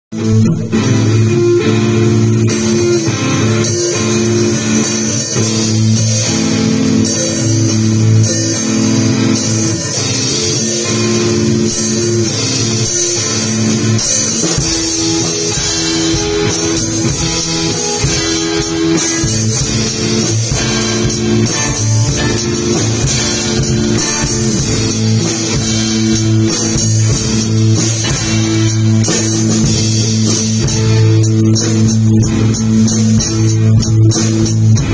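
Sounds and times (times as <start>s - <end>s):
drum kit: 0.1s - 34.9s
electric guitars playing riff: 0.1s - 34.9s.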